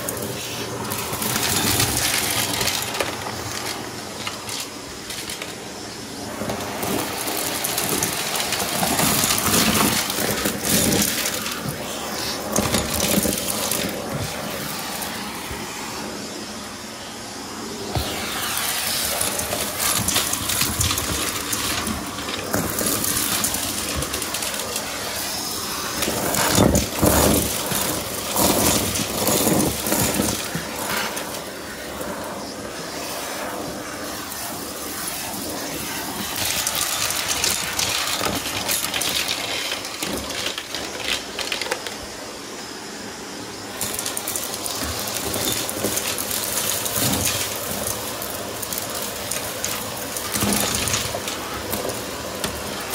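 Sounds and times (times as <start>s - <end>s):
plastic pieces rattling in tube: 0.0s - 5.7s, 6.4s - 14.8s, 19.0s - 31.4s, 34.7s - 42.1s, 43.8s - 52.9s
stick vacuum running: 0.0s - 52.9s.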